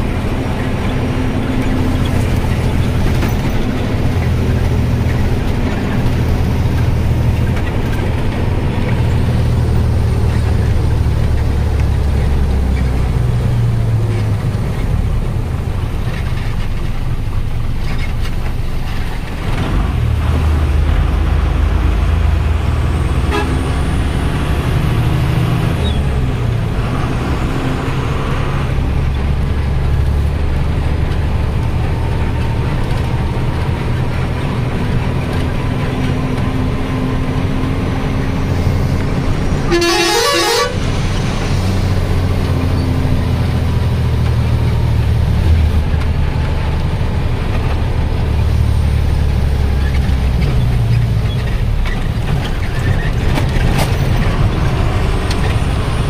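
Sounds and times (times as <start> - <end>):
diesel truck engine running: 0.0 - 56.0
road noise: 0.0 - 56.0.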